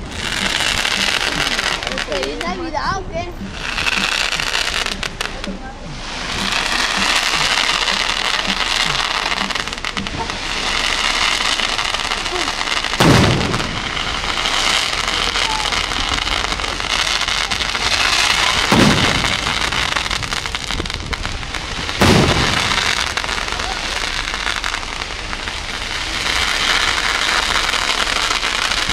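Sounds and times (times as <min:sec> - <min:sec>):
fireworks crackling: 0:00.0 - 0:28.9.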